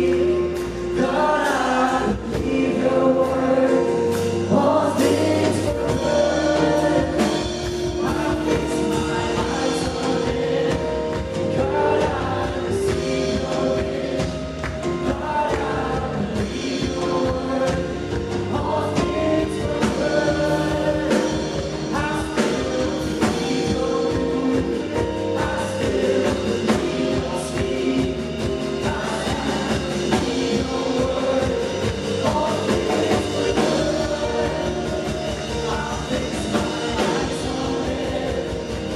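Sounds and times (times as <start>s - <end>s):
band with drums playing: 0.0s - 38.9s
singers holding sustained notes: 0.0s - 38.9s.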